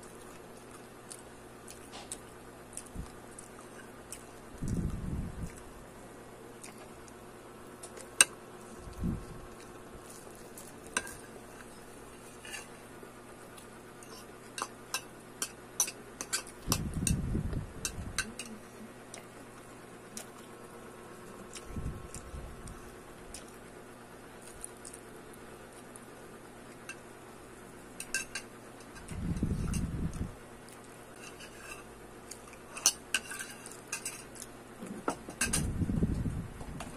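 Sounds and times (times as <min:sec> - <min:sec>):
muffled chewing lettuce: 0:00.0 - 0:14.9, 0:18.3 - 0:26.9, 0:28.8 - 0:34.9.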